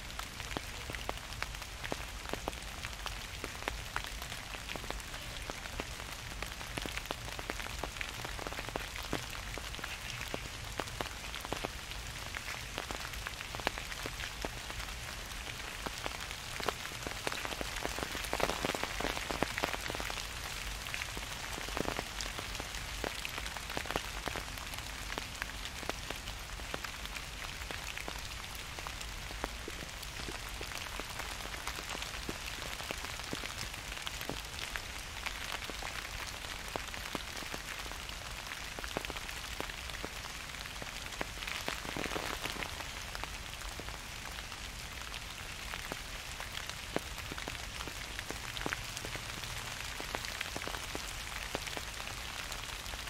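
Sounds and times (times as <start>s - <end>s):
gentle rain falling: 0.0s - 53.0s
raindrops ticking on surfaces: 0.0s - 53.0s.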